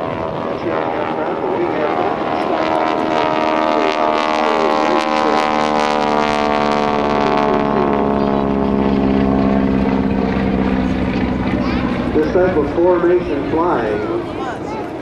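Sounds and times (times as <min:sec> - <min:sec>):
propeller planes droning past: 0:00.0 - 0:15.0.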